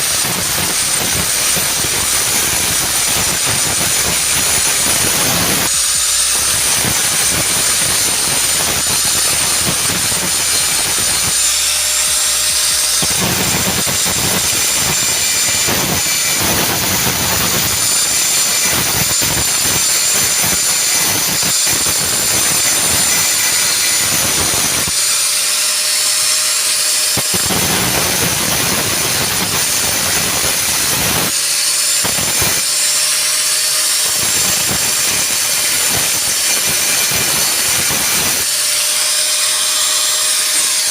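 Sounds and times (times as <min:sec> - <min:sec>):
angle grinder grinding metal: 0:00.0 - 0:40.9.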